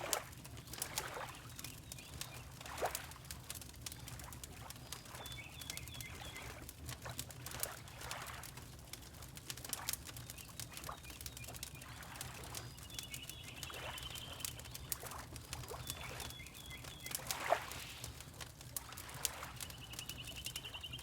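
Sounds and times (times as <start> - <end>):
water lapping: 0.0 - 5.5, 6.1 - 10.4, 11.7 - 20.9
fireplace crackling and popping: 0.0 - 21.0.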